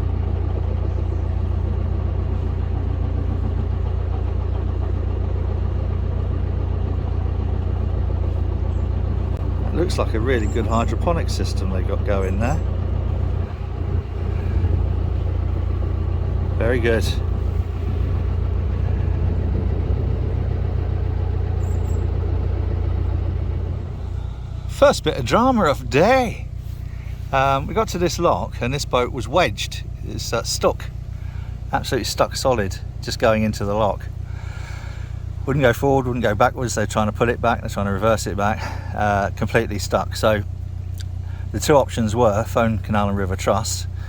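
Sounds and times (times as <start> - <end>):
diesel boat engine droning: 0.0 - 44.0.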